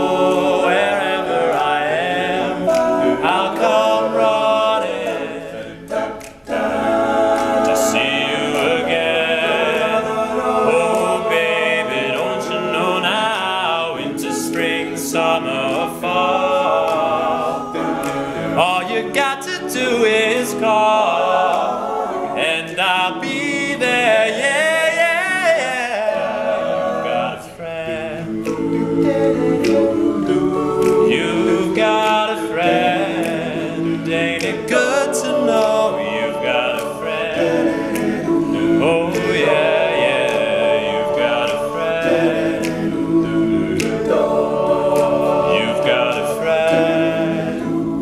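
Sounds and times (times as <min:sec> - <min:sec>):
lead singing voice: 0:00.0 - 0:48.0
male a cappella group singing: 0:00.0 - 0:48.0.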